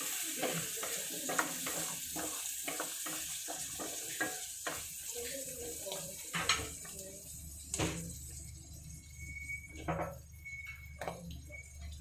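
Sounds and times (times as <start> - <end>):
mushrooms sizzling in oil: 0.0 - 12.0.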